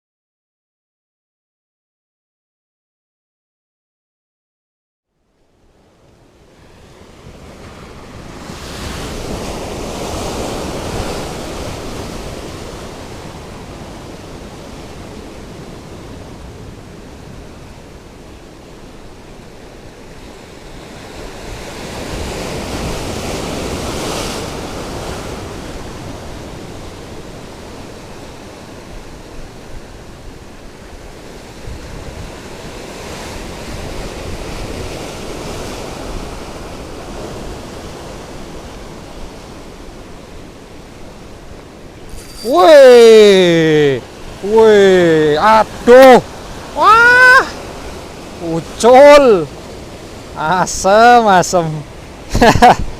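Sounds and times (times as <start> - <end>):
sea surf washing ashore: 5.5 - 52.9.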